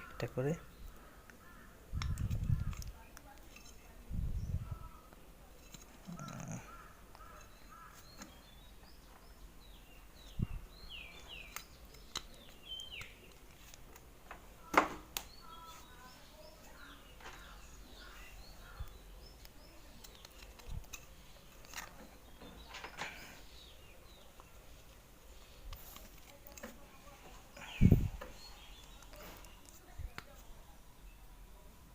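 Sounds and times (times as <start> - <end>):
birds chirping: 0.0 - 31.4.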